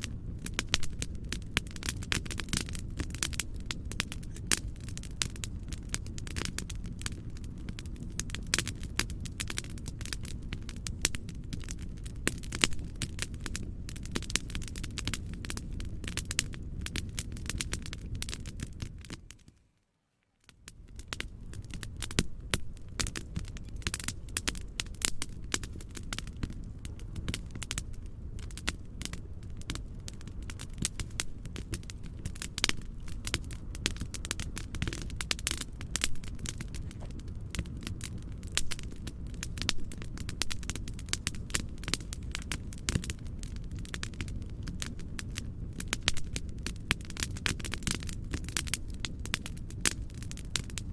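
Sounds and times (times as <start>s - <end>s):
wood fire crackling and popping: 0.0s - 19.6s, 20.2s - 50.9s.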